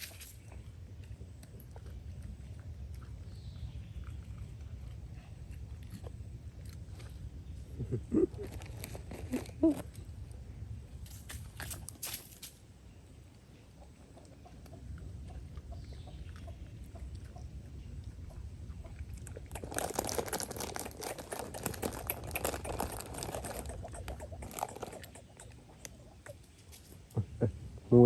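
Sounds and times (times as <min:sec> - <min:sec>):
animal chewing and crunching food: 0:00.0 - 0:27.2.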